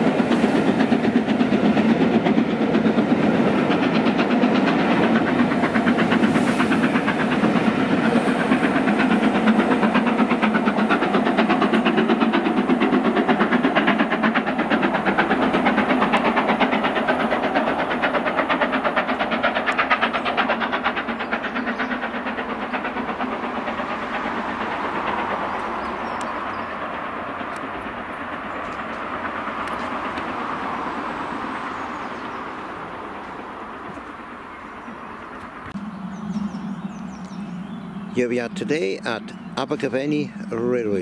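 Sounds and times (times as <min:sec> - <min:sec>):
steam locomotive chuffing and rumbling: 0:00.0 - 0:41.0.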